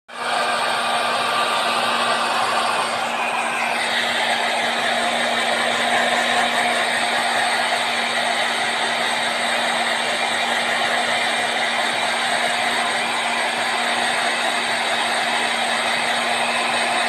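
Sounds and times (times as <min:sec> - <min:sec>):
hair dryer blowing: 0:00.1 - 0:17.0.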